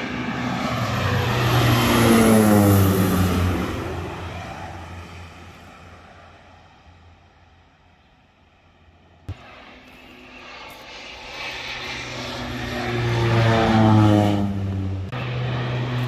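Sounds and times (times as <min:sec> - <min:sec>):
airplane engine and propeller: 0:00.0 - 0:16.0.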